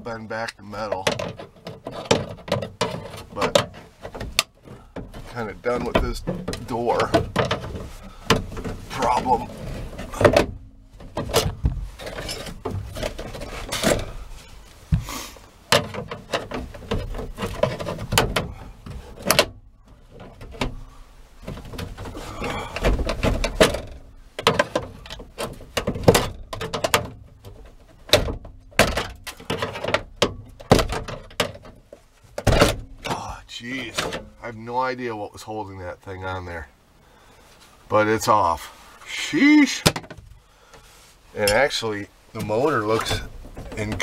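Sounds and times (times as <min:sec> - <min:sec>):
plastic scraping against sheet metal: 0:00.7 - 0:34.7, 0:39.6 - 0:44.0.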